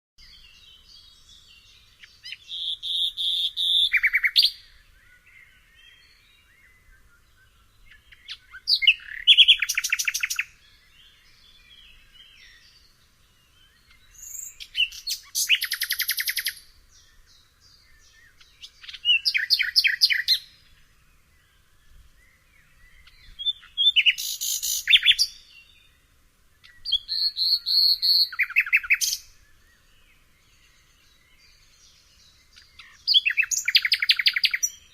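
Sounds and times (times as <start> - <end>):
nightingale singing: 0.2 - 34.9.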